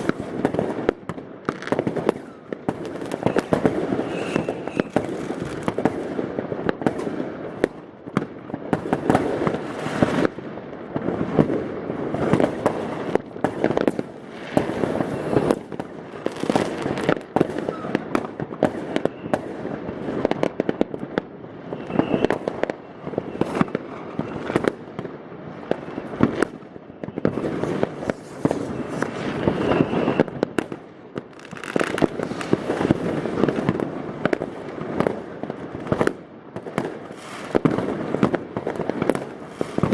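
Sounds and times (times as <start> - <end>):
fireworks and firecrackers: 0.0 - 39.9.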